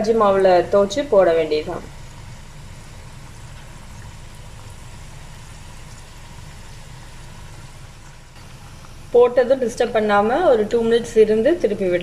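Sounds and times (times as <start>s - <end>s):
deep-frying sizzling and bubbling: 0.0s - 12.0s.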